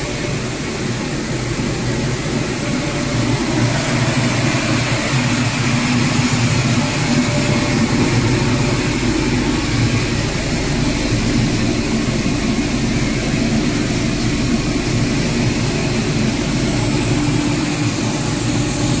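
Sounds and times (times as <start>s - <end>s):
vibrating sieve: 0.0s - 19.0s.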